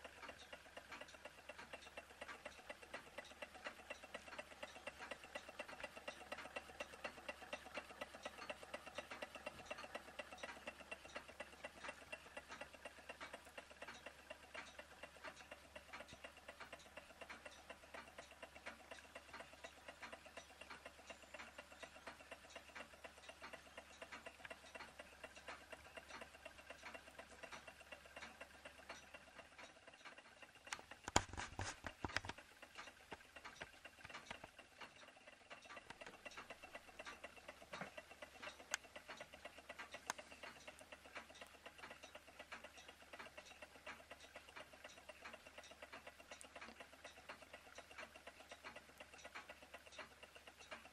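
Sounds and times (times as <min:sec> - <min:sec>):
model engines ticking: 0:00.0 - 0:50.9.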